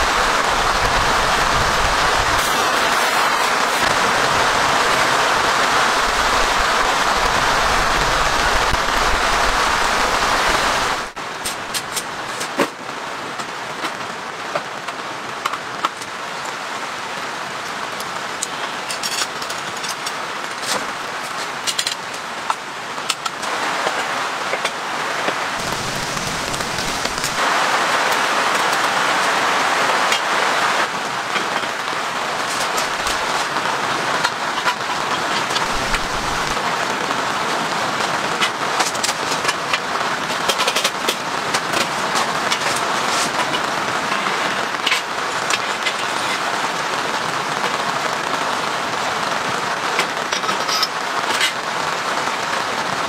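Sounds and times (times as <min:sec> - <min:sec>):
heavy rain: 0:00.0 - 0:53.0
light rain: 0:00.0 - 0:53.0.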